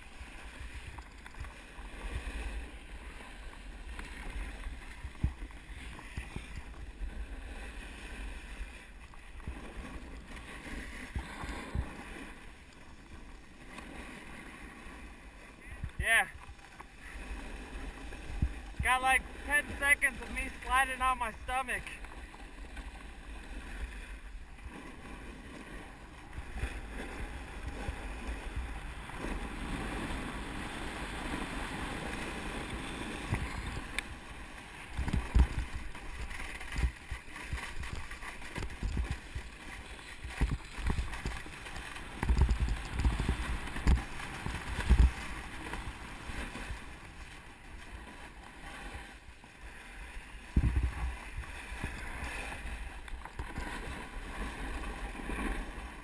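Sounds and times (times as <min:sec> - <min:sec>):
snowboard carving over snow: 0:00.0 - 0:56.0.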